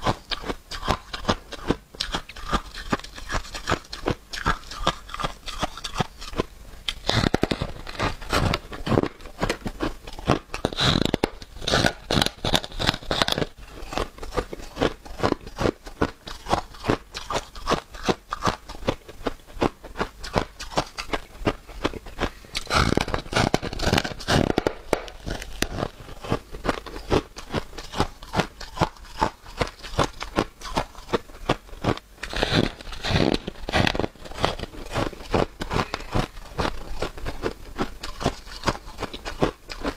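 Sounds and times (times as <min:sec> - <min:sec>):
crunching ice being chewed: 0:00.0 - 0:39.9.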